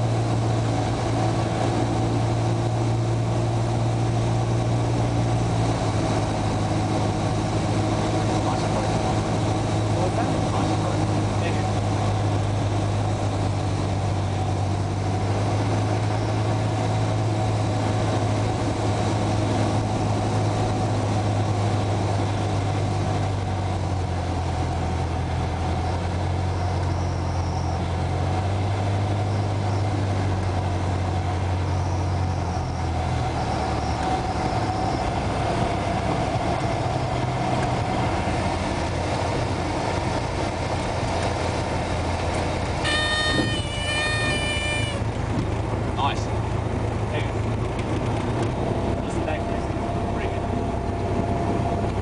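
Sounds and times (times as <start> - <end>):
propeller plane engine drone: 0.0 - 52.0.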